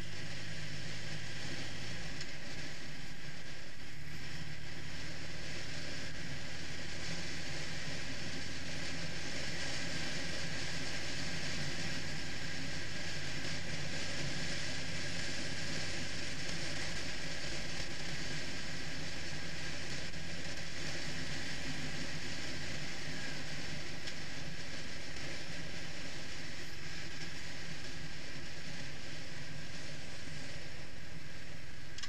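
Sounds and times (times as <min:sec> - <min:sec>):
motorcycle engine running: 0:00.0 - 0:32.0
wind and road rush: 0:00.0 - 0:32.0.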